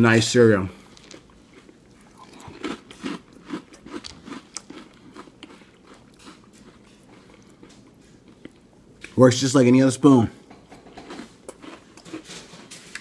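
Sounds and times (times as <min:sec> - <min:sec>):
person chewing crunchy cereal: 0:00.8 - 0:09.2, 0:10.8 - 0:13.0.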